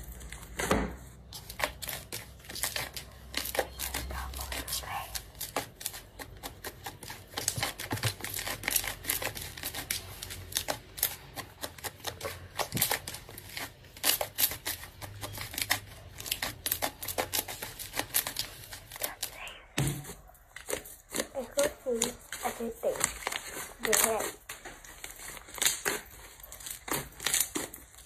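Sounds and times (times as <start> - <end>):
slime crackling and popping: 1.4 - 28.0.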